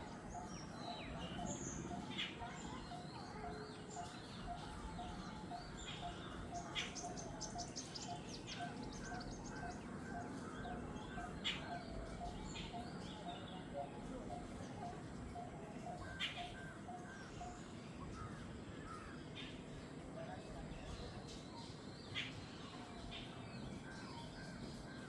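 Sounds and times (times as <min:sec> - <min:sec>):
birds chirping and calling: 0:00.0 - 0:25.0.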